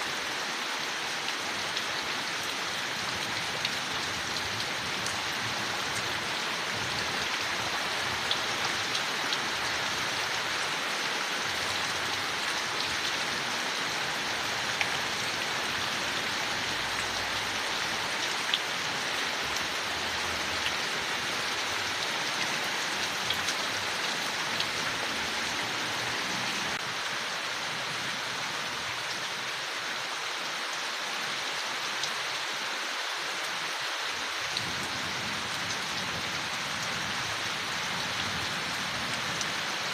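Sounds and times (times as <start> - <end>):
rain falling on leaves: 0.0 - 39.9
sharp nearby raindrops: 0.0 - 39.9.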